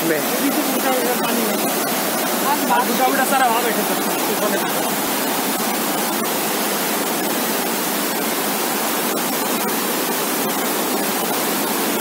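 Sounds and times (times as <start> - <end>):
floodwater rushing over rocks: 0.0 - 12.0.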